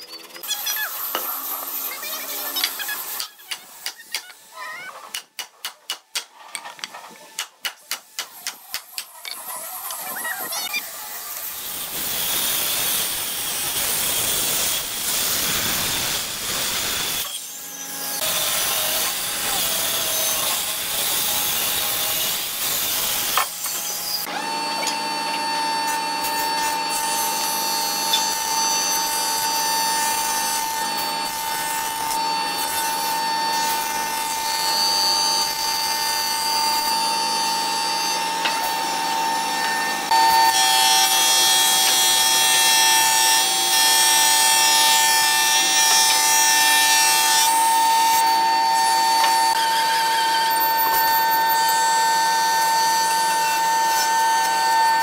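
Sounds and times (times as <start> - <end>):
power saw cutting wood: 0.0 - 6.2, 7.0 - 55.0.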